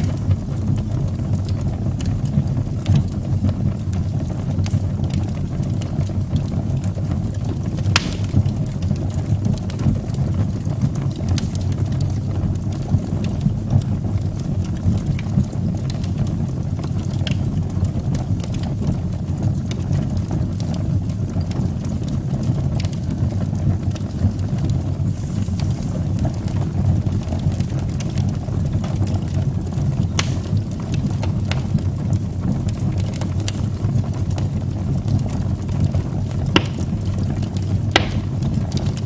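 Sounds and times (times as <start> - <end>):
fire crackling in fireplace: 0.0 - 39.0.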